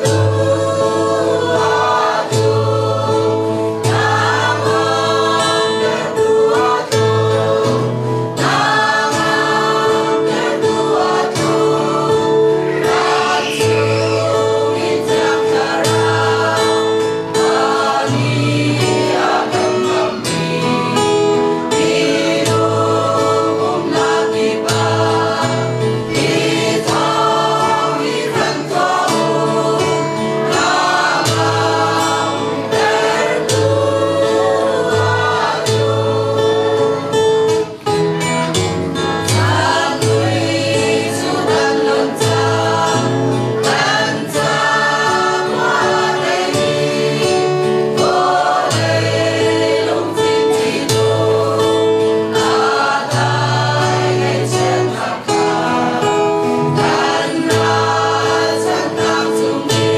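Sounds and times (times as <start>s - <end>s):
mixed choir singing a hymn: 0.0s - 59.9s.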